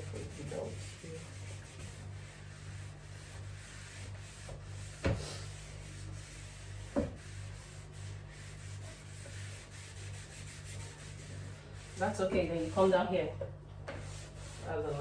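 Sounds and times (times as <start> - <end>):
scrubbing and rubbing surfaces: 0.0 - 13.0, 14.0 - 15.0.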